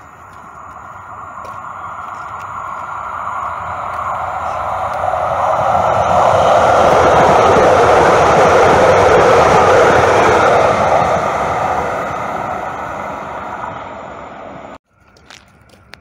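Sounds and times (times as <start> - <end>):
light-rail train passing: 0.0 - 16.0.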